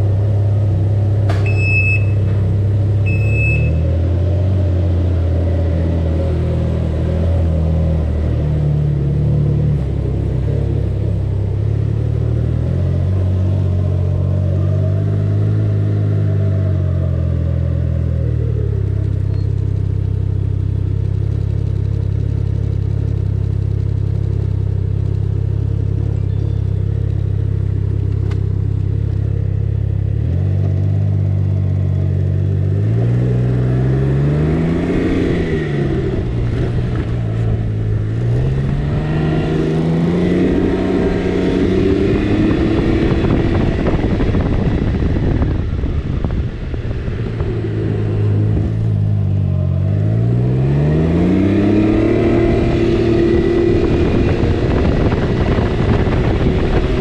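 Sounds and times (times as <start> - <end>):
three-cylinder engine revving: 0.0 - 57.0.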